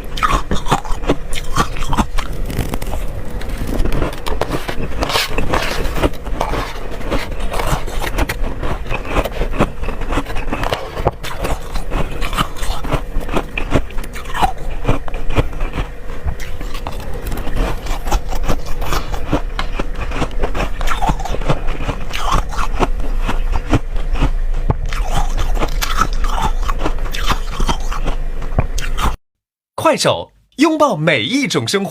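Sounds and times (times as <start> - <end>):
frost being crunched and chewed: 0.0 - 29.2.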